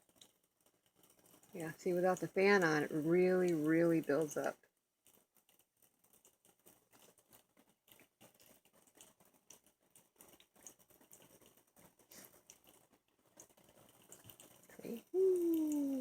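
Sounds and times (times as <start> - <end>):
water droplets pattering: 0.0 - 16.0.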